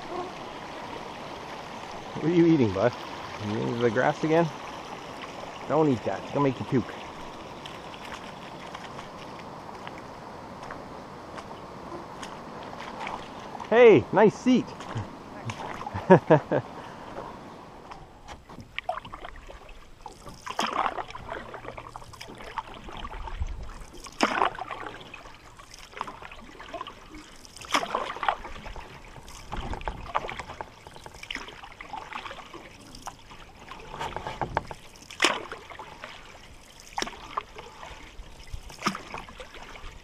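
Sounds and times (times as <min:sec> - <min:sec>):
paddle pulling through water: 0:00.0 - 0:40.0
water trickling: 0:00.0 - 0:40.0.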